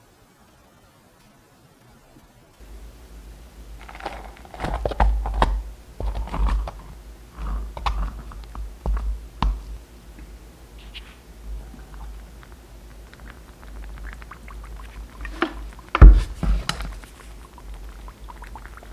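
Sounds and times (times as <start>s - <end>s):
hard objects clicking and knocking: 2.6s - 18.9s
low handling rumble: 2.6s - 18.9s.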